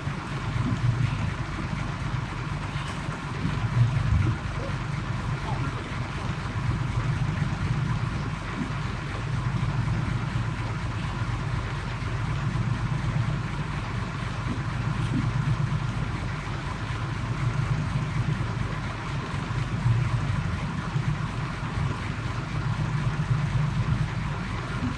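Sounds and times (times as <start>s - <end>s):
boat engine running at low revs: 0.0s - 24.9s
water noise: 0.0s - 24.9s
wind: 0.0s - 24.9s.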